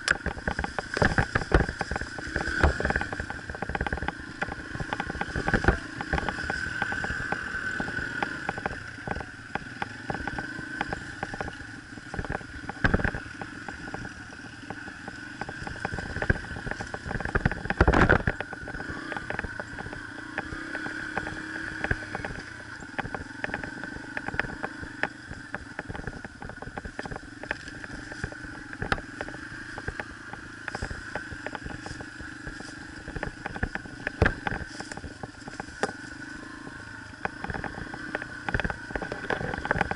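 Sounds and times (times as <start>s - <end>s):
dirt bike engine running: 0.0s - 39.9s
knocks and rattles over rough ground: 0.0s - 39.9s.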